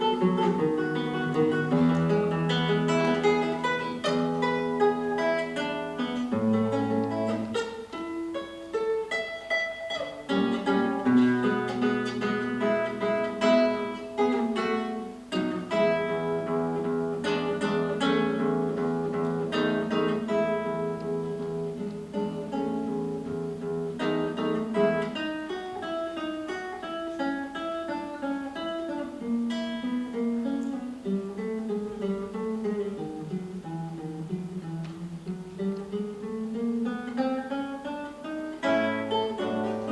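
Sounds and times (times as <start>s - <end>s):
solo plucked string instrument: 0.0s - 39.9s.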